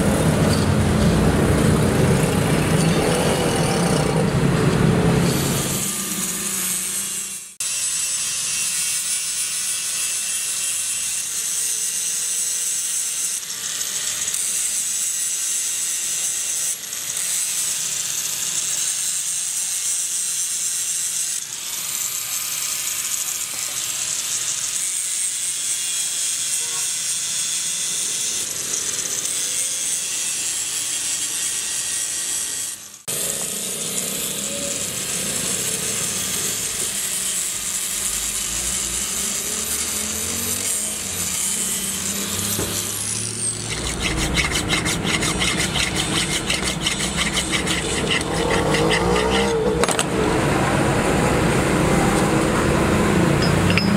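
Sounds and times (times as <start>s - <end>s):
electric grinder whining on metal: 0.0s - 53.9s
file strokes on metal: 5.3s - 49.8s.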